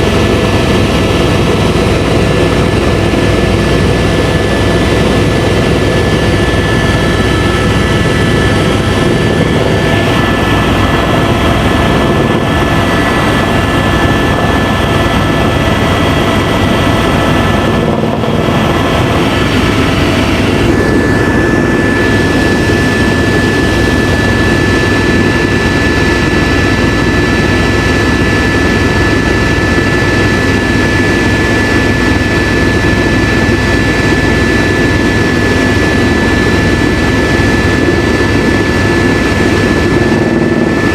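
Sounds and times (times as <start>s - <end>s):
helicopter rotor and turbine noise: 0.0s - 40.9s.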